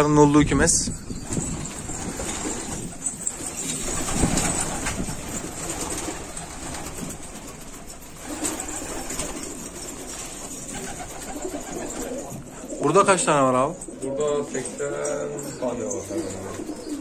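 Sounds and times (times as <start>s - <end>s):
pigeons cooing: 1.0s - 17.0s.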